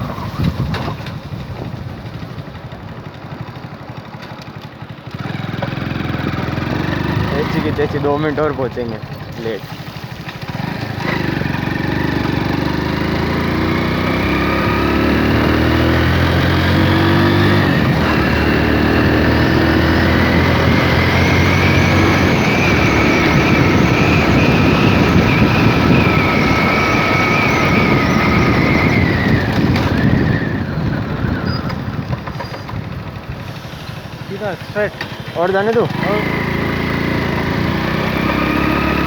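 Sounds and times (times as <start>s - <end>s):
motorcycle engine under load: 0.0s - 39.0s
wind and road noise: 0.0s - 39.0s.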